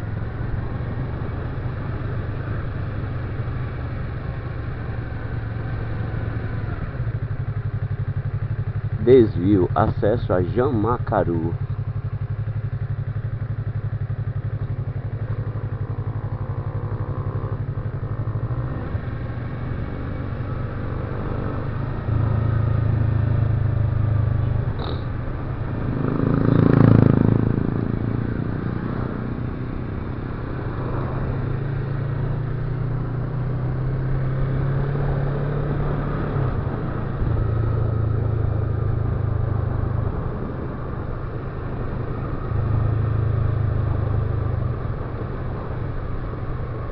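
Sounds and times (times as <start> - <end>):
road vehicle engine drone: 0.0 - 46.9.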